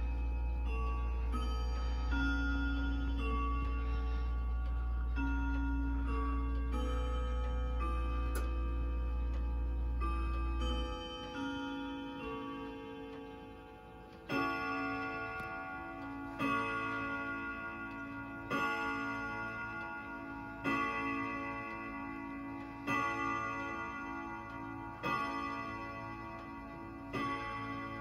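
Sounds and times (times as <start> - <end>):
clock ticking: 0.0 - 28.0
grandfather clock striking: 0.0 - 28.0.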